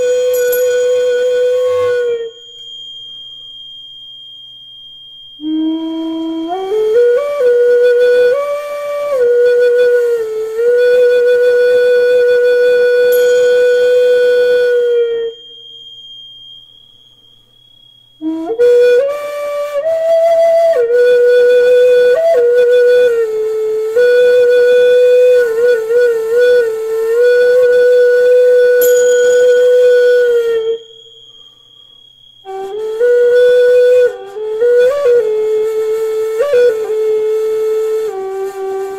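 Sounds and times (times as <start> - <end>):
high steady ringing tone: 0.0 - 10.0, 10.6 - 22.0, 24.2 - 35.9
flute playing slow notes: 0.0 - 17.4, 18.2 - 38.9.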